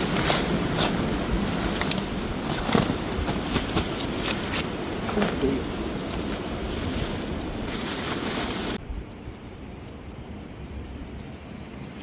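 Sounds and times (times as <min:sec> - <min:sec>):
rushing wind: 0:00.0 - 0:12.0.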